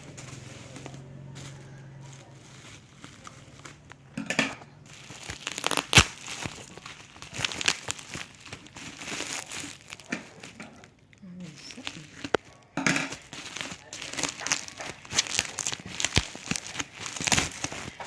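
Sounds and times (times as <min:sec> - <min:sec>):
packaging crinkling and tearing: 0:00.0 - 0:04.2, 0:04.8 - 0:18.0.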